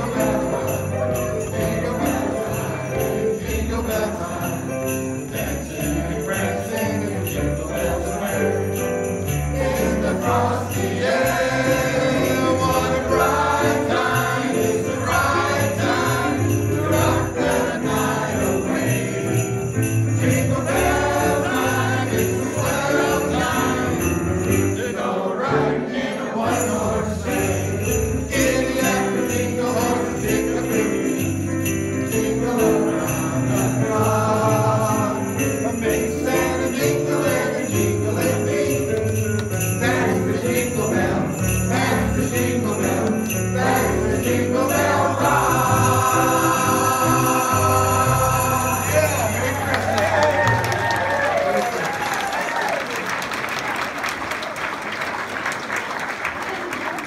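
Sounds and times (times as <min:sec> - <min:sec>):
sleigh bells ringing: 0:00.0 - 0:25.3, 0:26.2 - 0:51.0
man and boy singing: 0:00.0 - 0:49.7
pop band accompaniment: 0:00.0 - 0:52.1.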